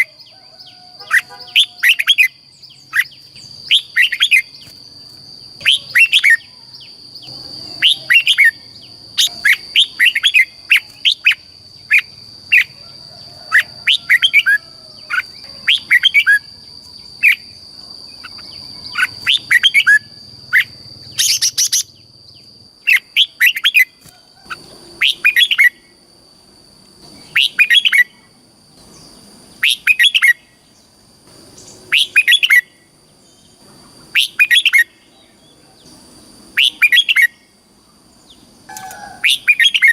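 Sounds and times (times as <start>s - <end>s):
bulbul chirping song: 0.0s - 26.1s, 27.0s - 39.9s.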